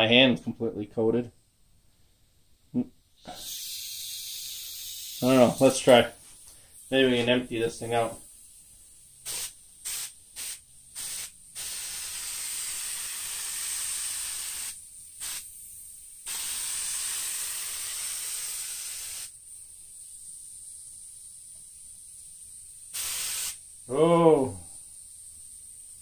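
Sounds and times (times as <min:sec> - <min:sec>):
spray gun hissing: 0:03.3 - 0:26.0.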